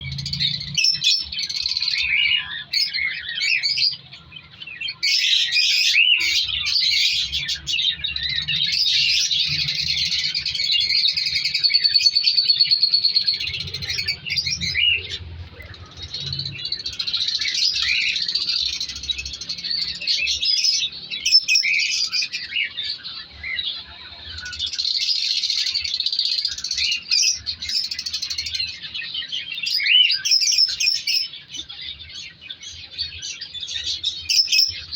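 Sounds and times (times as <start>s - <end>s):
lovebirds chattering: 0.0s - 34.9s.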